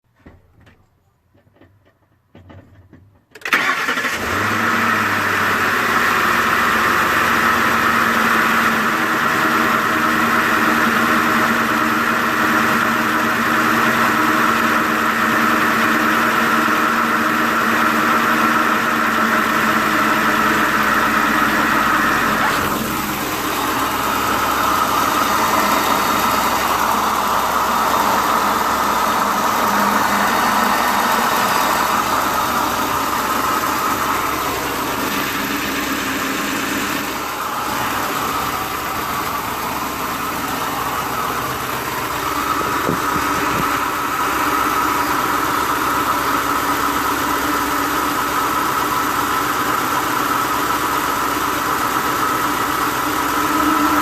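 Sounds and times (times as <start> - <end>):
car engine running roughly: 1.5 - 54.0.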